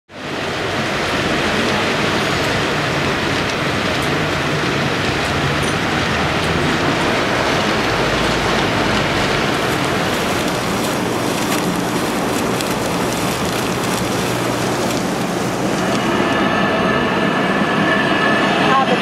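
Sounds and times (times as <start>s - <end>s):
city street noise: 0.1s - 19.0s.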